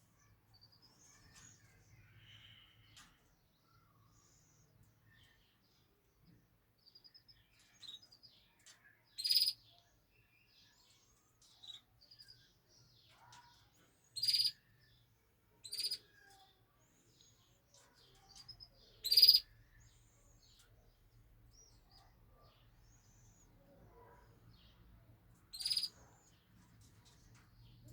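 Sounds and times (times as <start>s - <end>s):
canaries loud high chirps: 0.1s - 5.9s, 6.8s - 27.9s.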